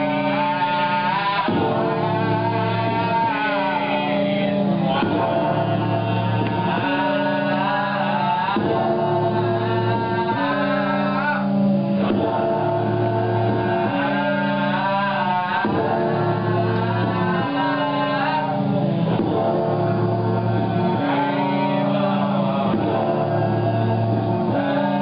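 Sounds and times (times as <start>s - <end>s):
person singing: 0.0s - 25.0s
sustained chords: 0.0s - 25.0s.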